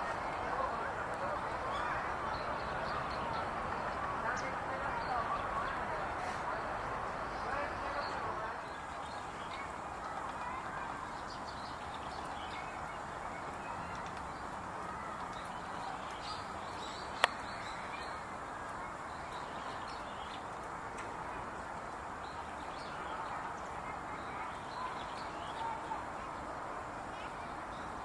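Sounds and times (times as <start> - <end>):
background murmur: 0.0 - 28.0.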